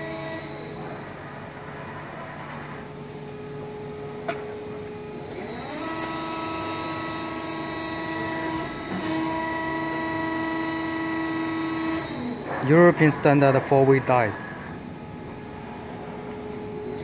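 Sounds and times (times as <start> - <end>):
machine drive whine: 0.0 - 17.0.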